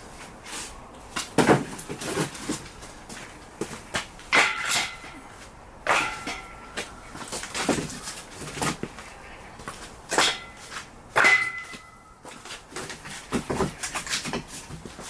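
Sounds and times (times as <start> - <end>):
firewood logs knocking together: 1.1 - 5.2, 5.8 - 9.0, 9.6 - 15.0.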